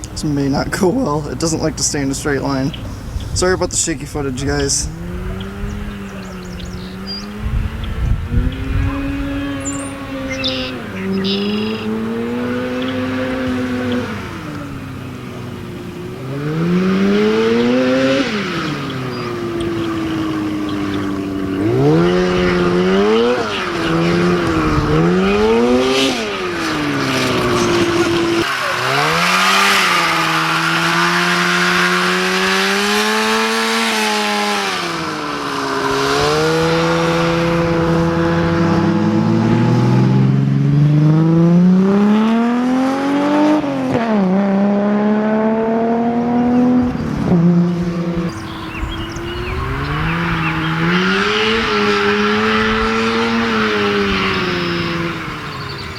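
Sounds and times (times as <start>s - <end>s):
two-stroke engine revving under load: 0.0s - 55.9s.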